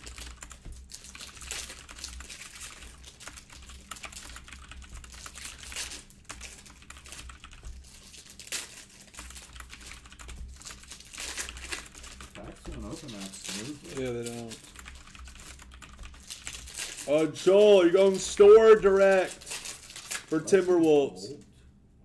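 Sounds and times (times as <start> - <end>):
keyboard typing: 0.0 - 21.0
foil wrappers crinkling: 0.0 - 21.2.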